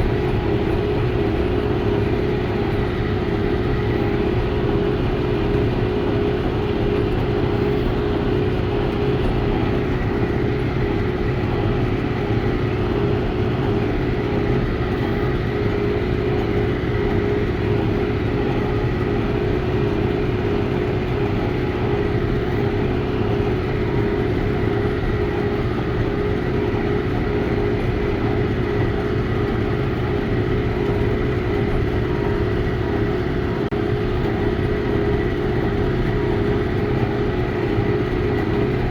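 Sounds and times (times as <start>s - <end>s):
tractor and baler running: 0.0s - 38.9s.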